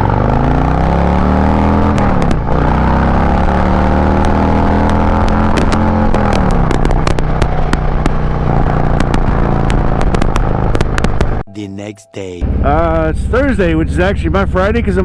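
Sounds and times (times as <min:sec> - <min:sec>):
motorcycle engine accelerating: 0:00.0 - 0:11.4, 0:12.4 - 0:15.0.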